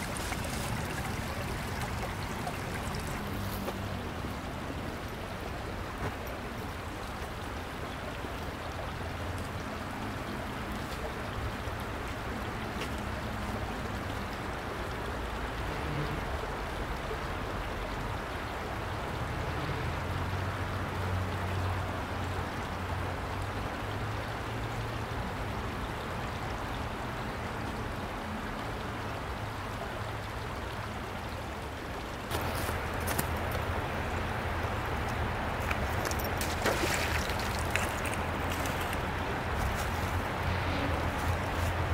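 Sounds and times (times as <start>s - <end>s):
creek water running over rocks: 0.0s - 41.9s.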